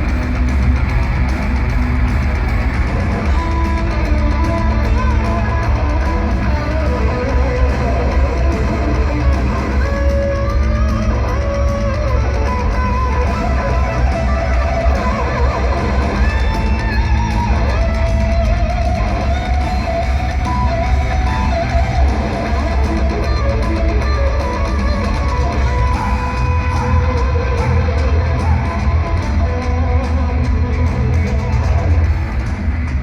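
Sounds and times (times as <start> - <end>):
lead guitar bending notes: 0.0 - 32.1
heavy metal band playing: 0.0 - 33.0.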